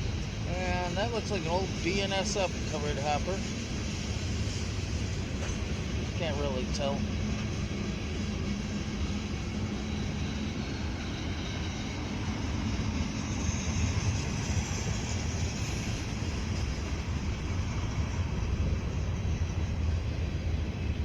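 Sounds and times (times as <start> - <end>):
freight train cars rumbling: 0.0 - 21.0.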